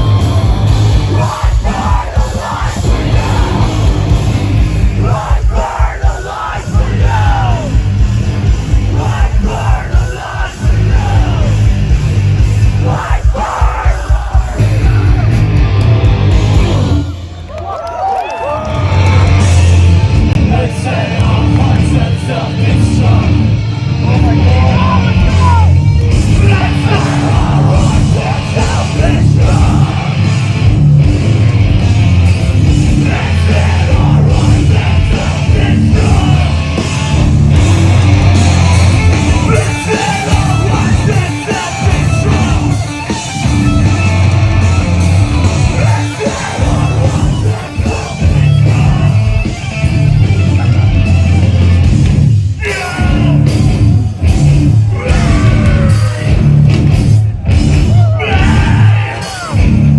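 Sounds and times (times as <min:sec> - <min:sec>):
yelled vocals: 0:00.0 - 0:17.2, 0:18.4 - 0:59.9
distorted guitars: 0:00.0 - 0:17.6, 0:18.5 - 0:59.9
bass: 0:00.0 - 0:59.9
drums: 0:00.0 - 0:59.9.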